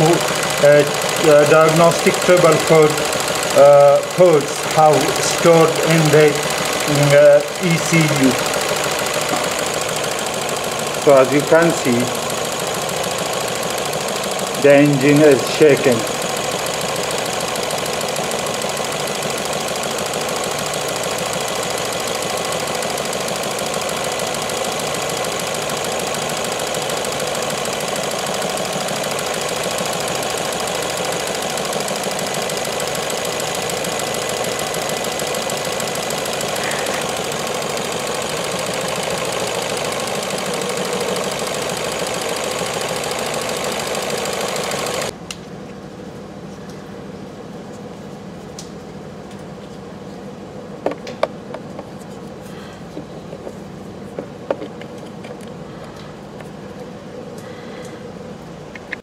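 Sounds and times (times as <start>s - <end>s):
car engine idling rough and misfiring: 0.0s - 59.0s.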